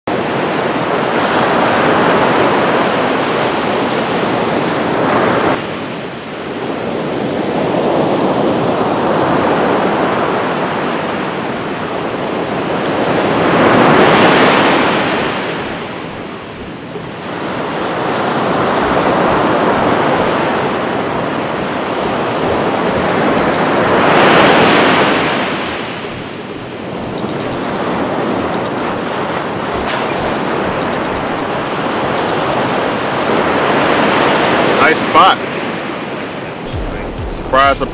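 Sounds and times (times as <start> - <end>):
ocean surf breaking on beach: 0.1 - 37.9
waves crashing: 0.1 - 37.9.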